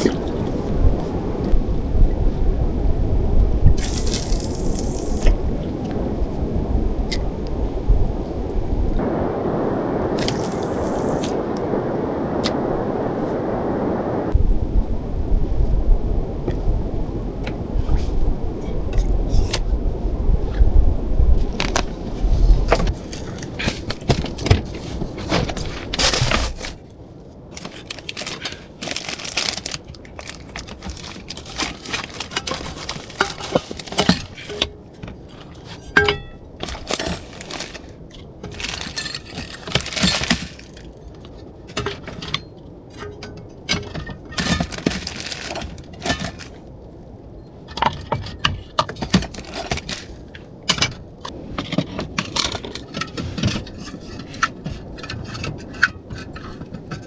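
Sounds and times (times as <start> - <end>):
low rumbling storm: 0.0 - 57.0.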